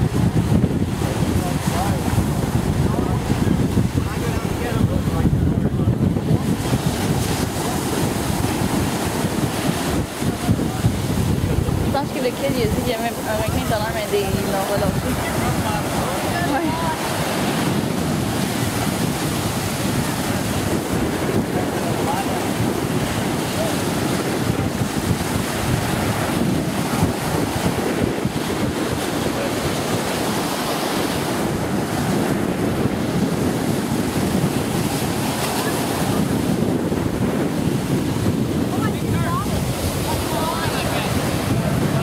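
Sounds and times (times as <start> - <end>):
ocean surf washing in: 0.0 - 42.0
wind on microphone: 0.0 - 42.0.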